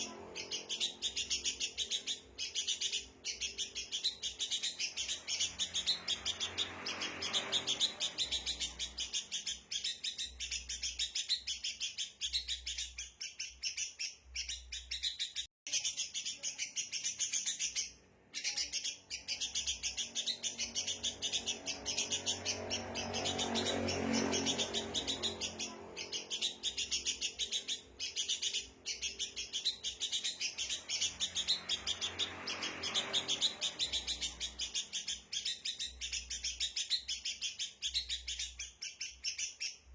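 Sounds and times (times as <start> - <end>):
birds alarm chatter: 0.0 - 39.9.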